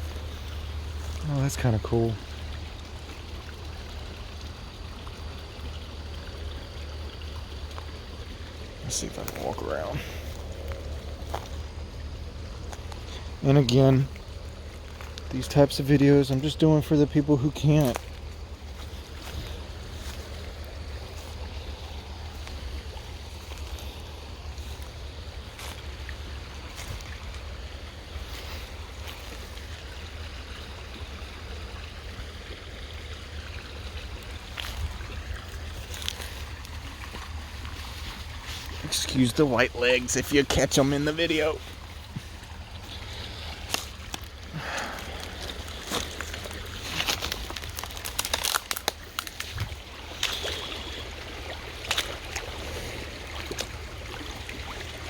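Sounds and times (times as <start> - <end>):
creek water rushing: 0.0 - 55.0
running stream: 0.0 - 55.0.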